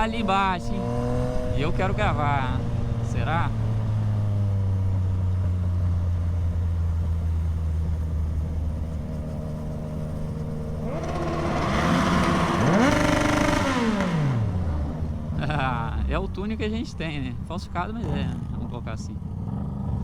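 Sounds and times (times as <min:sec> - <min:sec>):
motorcycle accelerating past: 0:00.0 - 0:16.1, 0:17.9 - 0:20.0
low engine hum: 0:00.0 - 0:20.0.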